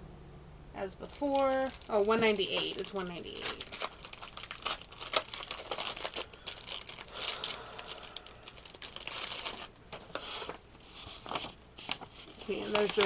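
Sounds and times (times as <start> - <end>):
paper crinkling and rustling: 1.1 - 13.0.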